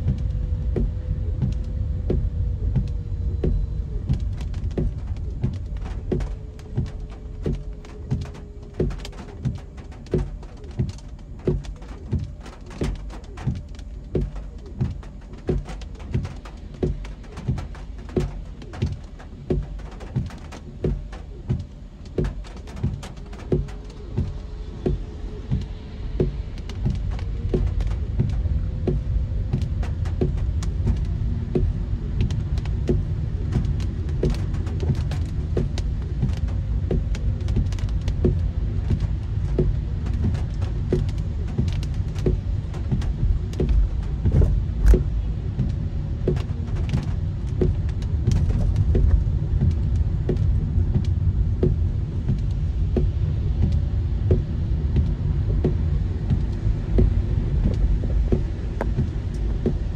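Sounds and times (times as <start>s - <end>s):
car road rumble: 0.0s - 59.9s
raindrops tapping on car: 0.0s - 59.9s.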